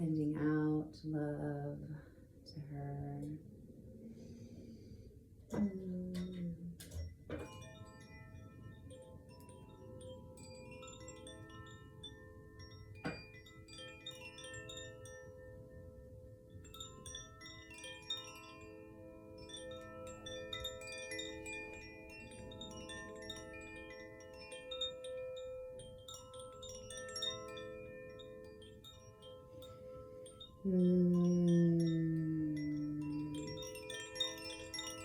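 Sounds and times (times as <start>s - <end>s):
wind chimes tinkling: 2.8s - 35.0s.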